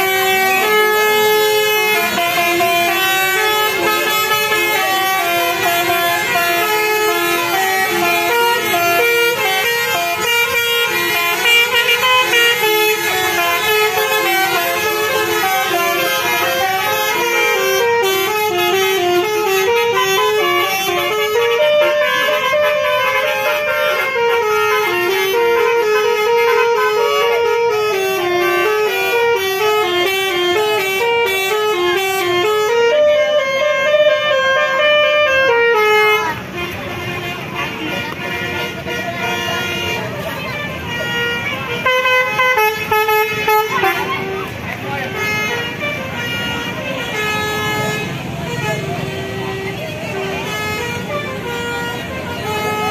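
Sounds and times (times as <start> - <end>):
musical air horn playing a tune: 0.0 - 52.9.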